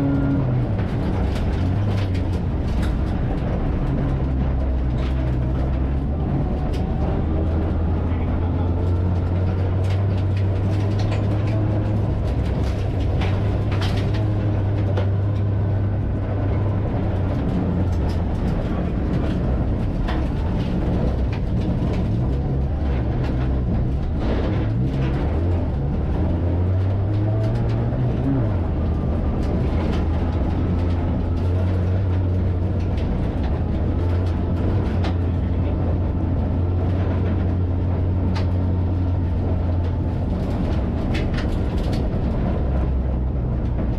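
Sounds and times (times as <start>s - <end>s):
race car engine drone: 0.0s - 43.9s.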